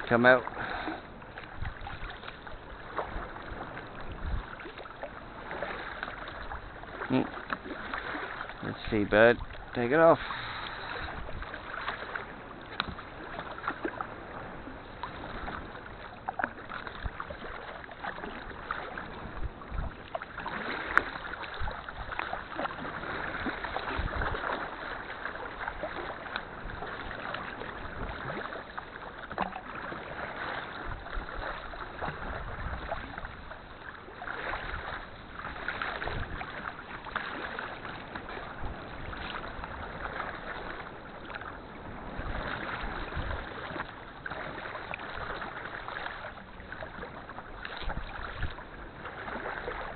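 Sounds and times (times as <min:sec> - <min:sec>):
water lapping around kayak: 0:00.0 - 0:49.9.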